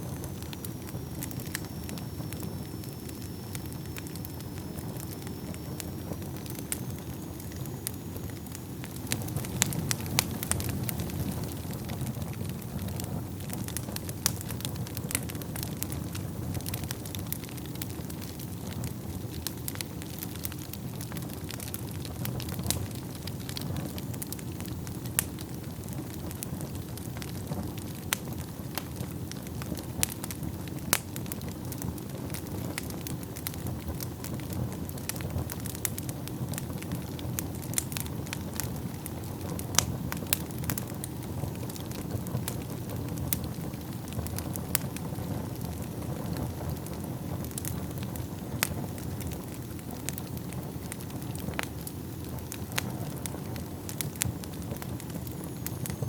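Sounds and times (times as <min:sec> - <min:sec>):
fire rumbling: 0:00.0 - 0:56.0
logs crackling and popping: 0:00.0 - 0:56.0.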